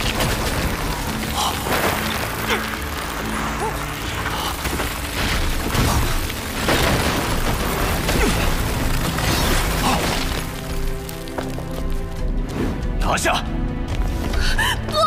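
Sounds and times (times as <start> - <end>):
ice shattering: 0.0 - 12.2.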